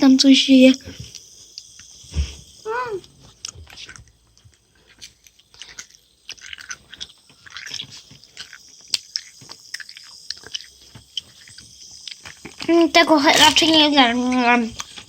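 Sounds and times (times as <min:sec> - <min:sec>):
soda fizzing with popping clicks: 0:00.0 - 0:15.0.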